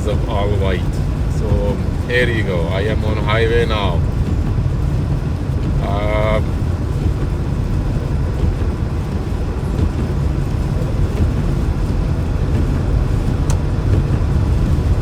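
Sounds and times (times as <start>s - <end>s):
car tyre and engine rumble: 0.0s - 15.0s.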